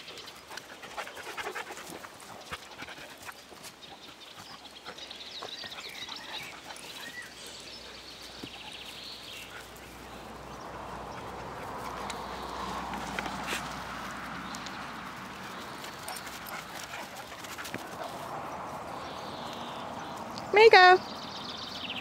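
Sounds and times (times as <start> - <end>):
dogs scuffling on grass: 0.0 - 21.3.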